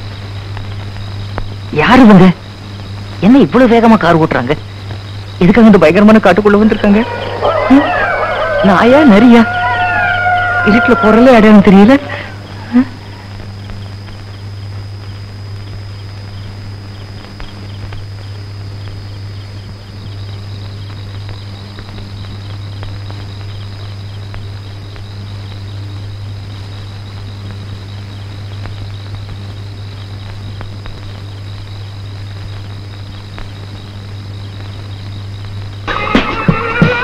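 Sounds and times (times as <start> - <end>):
constant low hum: 0.0 - 37.0
insects chirping: 0.0 - 37.0.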